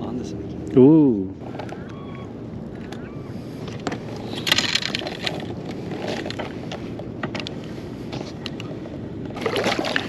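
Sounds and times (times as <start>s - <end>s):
low wind: 0.0s - 10.0s
water noise around boat: 0.0s - 10.0s.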